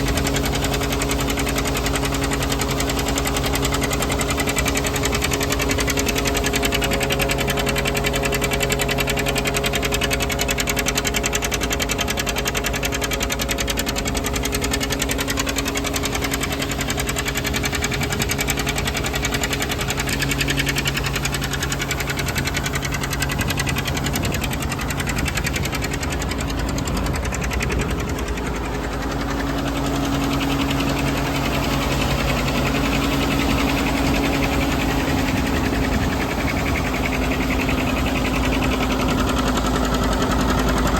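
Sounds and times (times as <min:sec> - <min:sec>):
diesel tractor running: 0:00.0 - 0:40.9
feed grinder grinding: 0:00.0 - 0:40.9.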